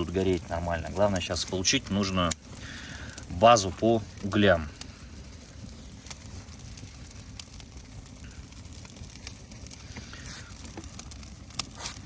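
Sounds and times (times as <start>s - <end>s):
campfire crackling and popping: 0.0s - 12.0s
low steady fire rumble: 0.0s - 12.0s.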